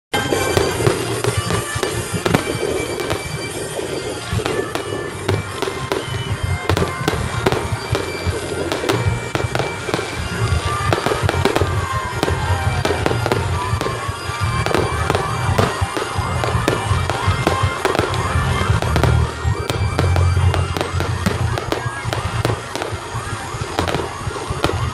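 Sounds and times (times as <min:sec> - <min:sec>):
fireworks bangs and crackles: 0:00.1 - 0:24.9.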